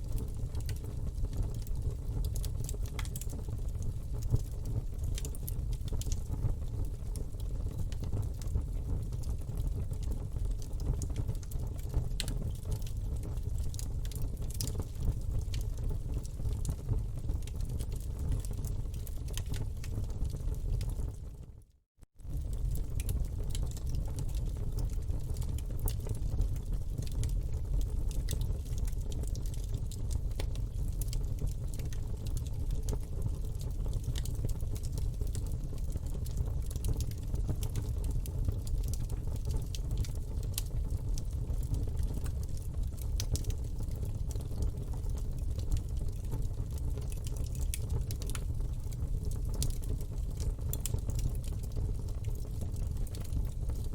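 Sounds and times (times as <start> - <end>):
burning wood crackling and popping: 0.0 - 7.2, 7.8 - 21.3, 22.3 - 53.9
campfire flames rumbling: 0.0 - 21.4, 22.2 - 53.9.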